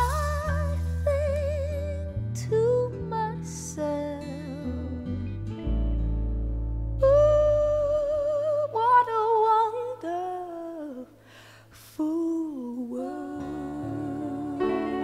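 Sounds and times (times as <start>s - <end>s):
soft musical accompaniment: 0.0s - 15.0s.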